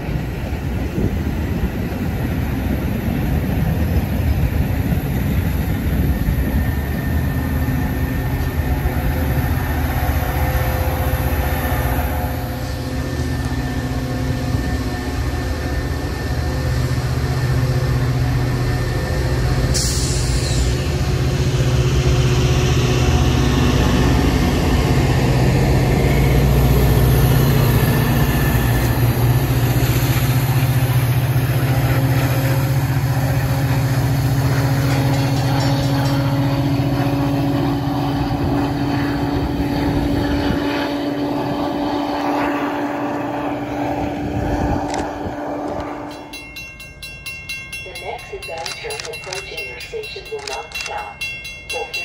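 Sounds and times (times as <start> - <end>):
diesel locomotive engine humming: 0.0 - 52.0
train cars rolling: 0.0 - 52.0.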